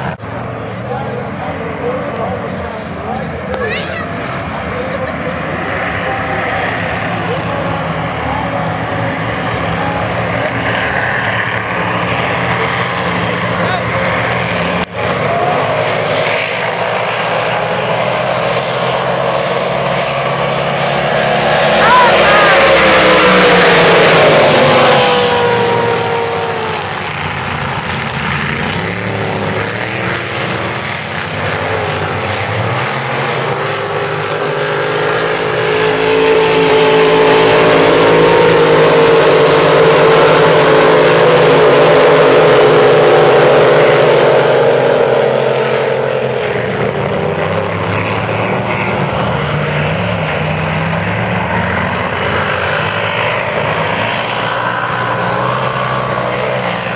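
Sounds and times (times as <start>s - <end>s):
race boat engines at full throttle: 0.0s - 56.9s.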